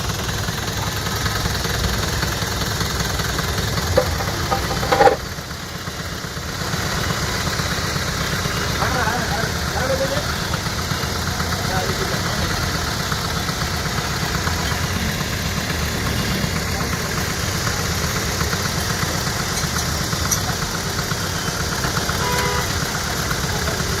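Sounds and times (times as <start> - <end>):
truck engine idling: 0.0 - 24.0
valve train ticking: 0.0 - 24.0.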